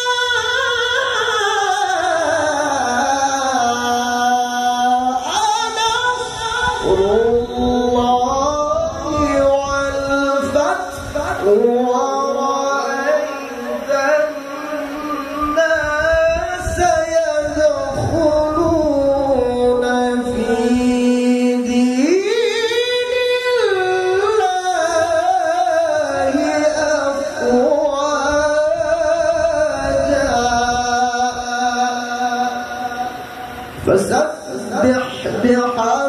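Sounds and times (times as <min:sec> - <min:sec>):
man reciting melodically: 0:00.0 - 0:36.0.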